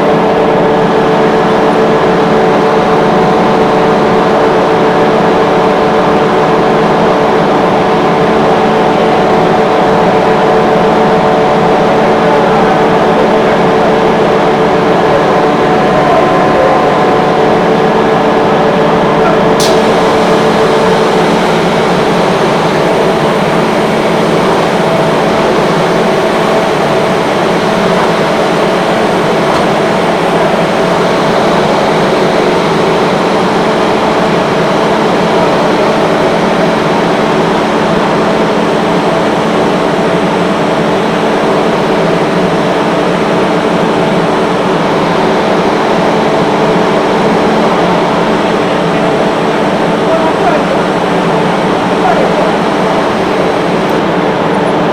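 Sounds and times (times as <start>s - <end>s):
air compressor running: 0.0s - 54.9s
steady hums: 0.0s - 54.9s.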